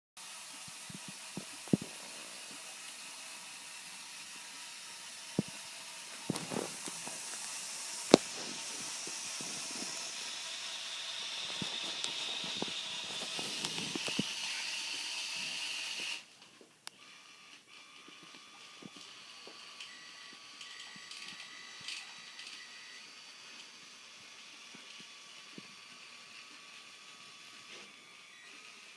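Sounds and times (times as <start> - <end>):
small electric motors whining: 0.2 - 28.9.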